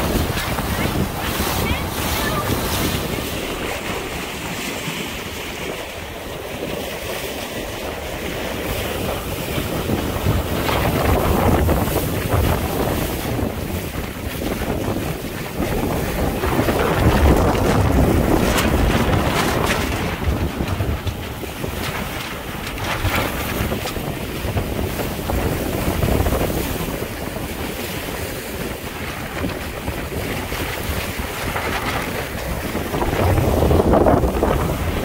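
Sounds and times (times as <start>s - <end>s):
water splashing along hull: 0.0s - 35.0s
wind buffeting microphone: 0.0s - 35.0s.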